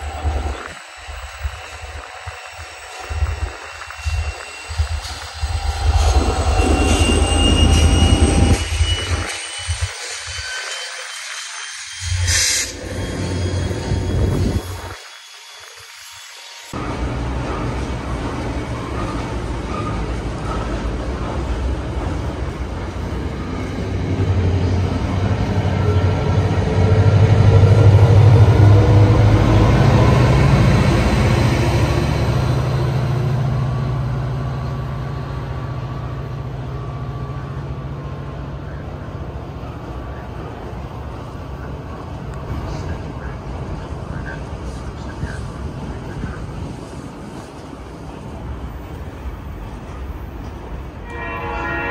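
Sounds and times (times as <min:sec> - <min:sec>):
locomotive engine hum: 0:00.0 - 0:09.9, 0:16.8 - 0:51.5.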